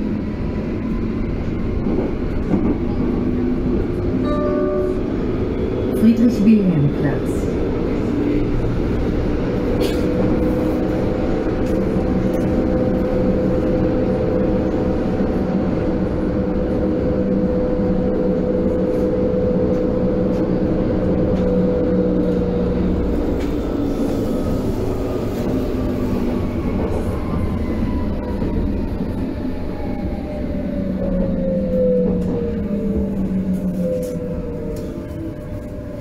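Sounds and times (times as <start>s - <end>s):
constant train whine: 0.0s - 36.0s
rumble of train wheels on rail: 0.0s - 36.0s.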